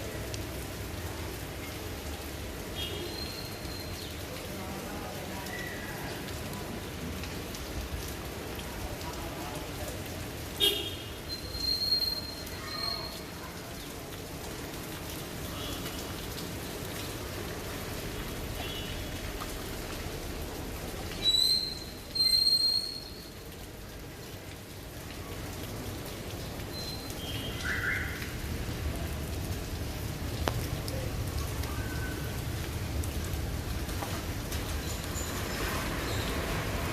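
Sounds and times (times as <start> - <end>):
rain pattering: 0.0 - 36.9.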